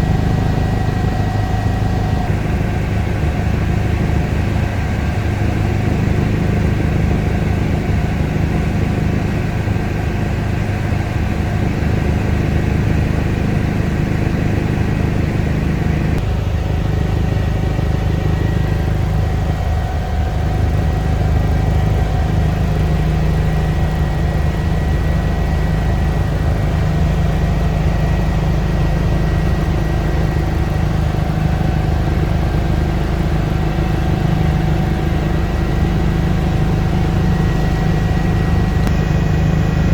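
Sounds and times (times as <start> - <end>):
helicopter turbine and rotor drone: 0.0 - 39.9
steady whine: 0.0 - 39.9.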